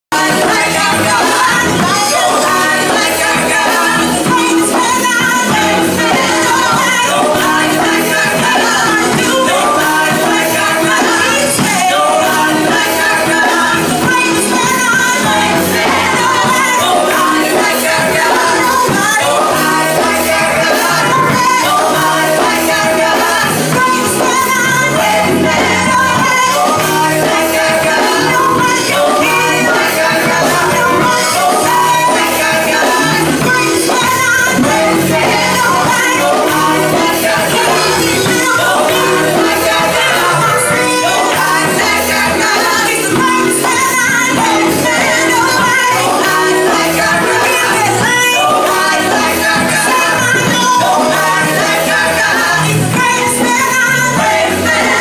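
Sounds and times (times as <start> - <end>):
women singing gospel: 0.0 - 55.0
instrumental accompaniment: 0.2 - 55.0.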